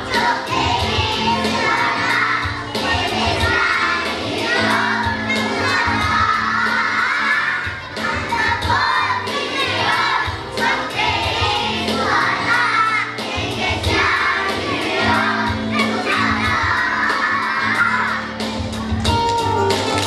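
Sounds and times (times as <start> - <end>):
children singing as a choir: 0.0 - 19.0
backing music with steady beat: 0.0 - 20.0.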